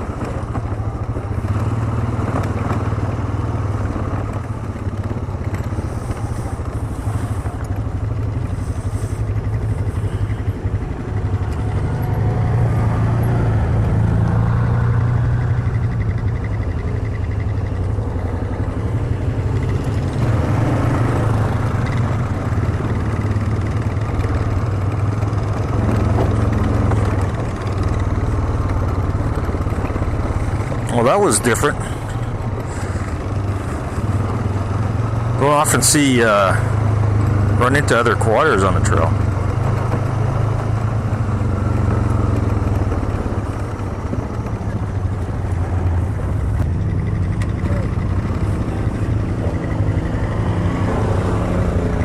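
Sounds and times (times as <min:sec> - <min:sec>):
atv engine running at low revs: 0:00.0 - 0:52.0.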